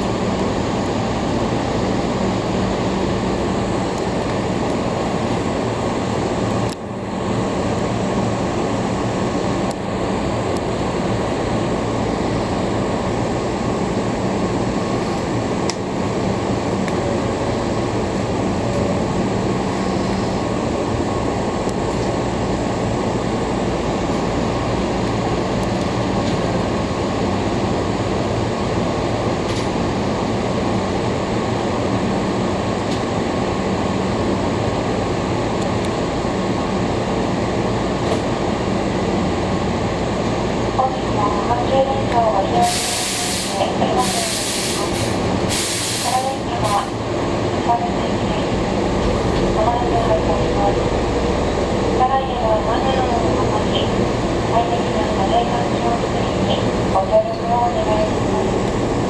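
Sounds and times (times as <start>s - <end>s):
train equipment hum and whir: 0.0s - 59.0s.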